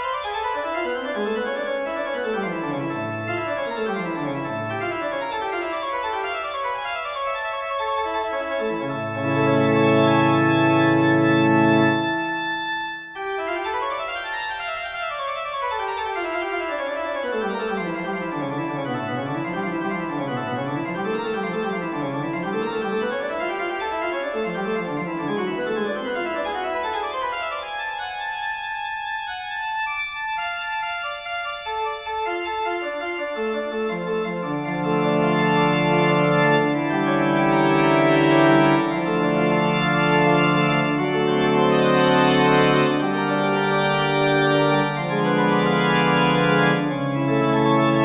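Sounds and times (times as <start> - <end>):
keyboard music: 0.0 - 48.0.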